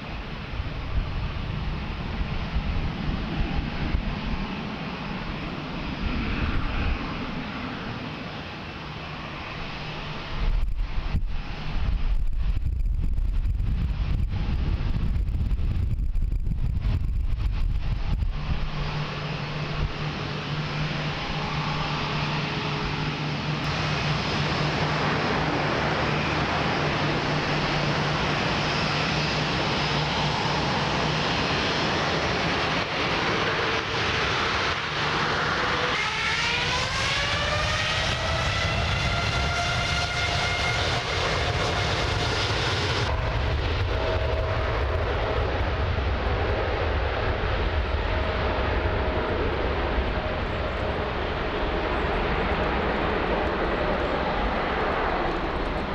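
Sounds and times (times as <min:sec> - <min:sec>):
jet engines roaring: 0:00.0 - 0:55.9
wind buffeting microphone: 0:00.0 - 0:55.9.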